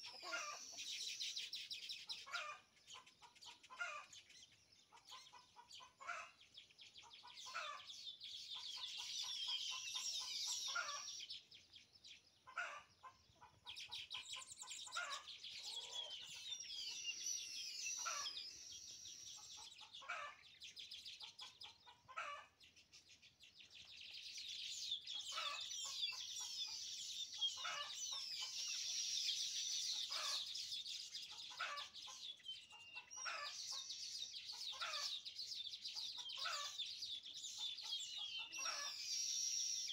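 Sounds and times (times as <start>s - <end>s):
birds clicking chatter: 0.0s - 39.9s
weaver birds singing: 0.0s - 39.9s.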